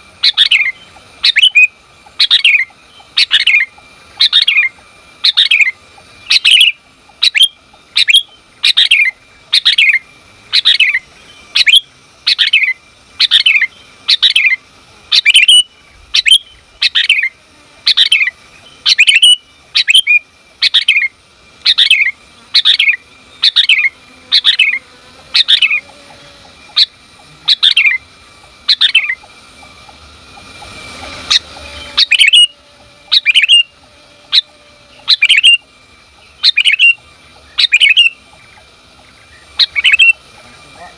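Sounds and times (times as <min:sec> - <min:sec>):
hiss: 0:00.0 - 0:40.9
bulbul giving sharp calls: 0:00.2 - 0:40.9.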